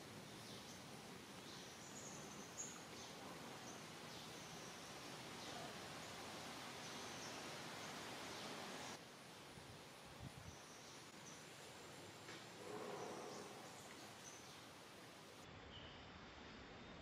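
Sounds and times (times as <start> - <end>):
even hiss: 0.0 - 15.4.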